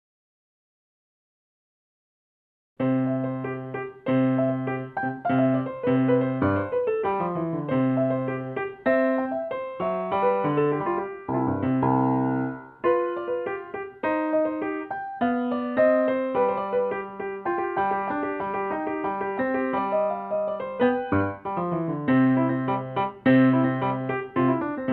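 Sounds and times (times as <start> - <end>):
solo piano playing: 2.8 - 24.9.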